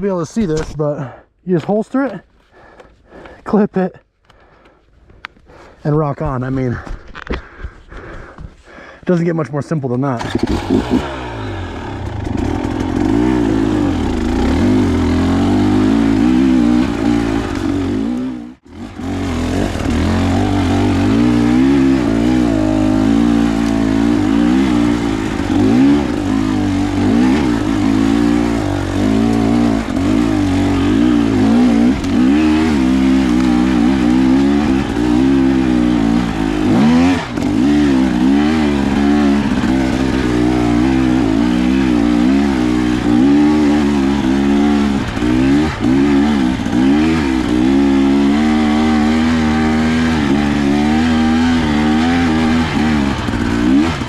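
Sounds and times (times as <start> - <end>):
dirt bike engine revving: 10.1 - 54.0.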